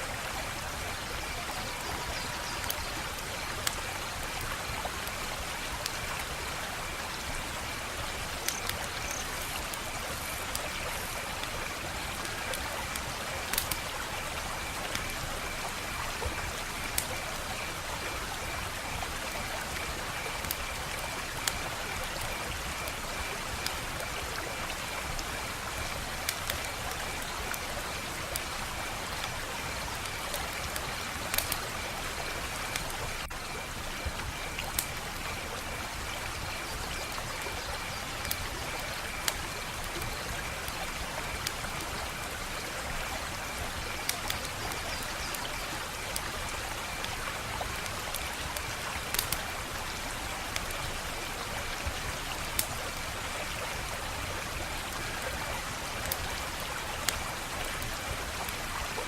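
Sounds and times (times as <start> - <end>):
wood fire crackling: 0.2 - 58.8.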